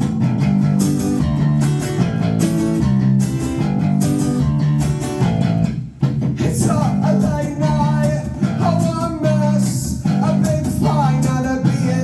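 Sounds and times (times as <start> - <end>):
bass guitar: 0.0 - 12.0
drums keeping beat: 0.0 - 12.0
electric guitars: 0.0 - 12.0.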